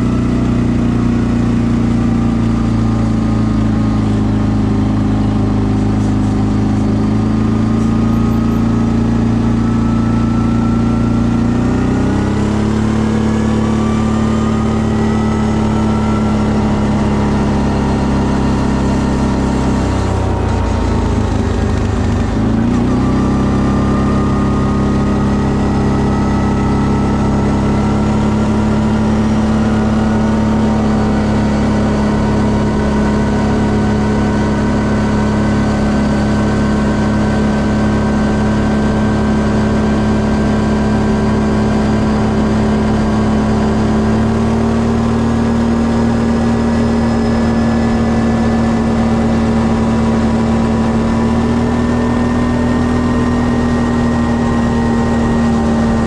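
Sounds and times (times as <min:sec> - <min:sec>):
quad bike engine droning: 0:00.0 - 0:56.0.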